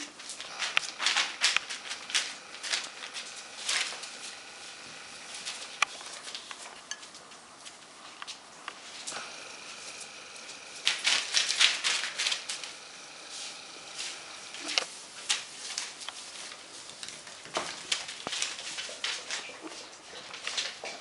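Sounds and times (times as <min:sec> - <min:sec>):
puppy paws scratching newspaper: 0:00.1 - 0:21.0.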